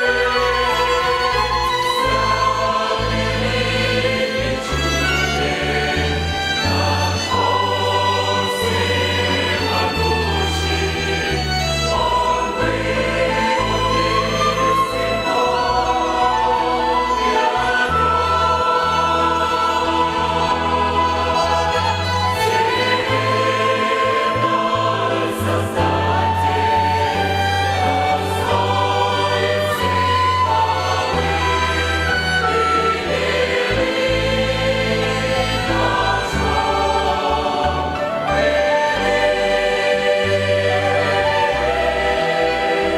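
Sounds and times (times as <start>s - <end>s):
church choir singing a hymn: 0.0s - 42.9s
violin ensemble: 0.0s - 42.9s.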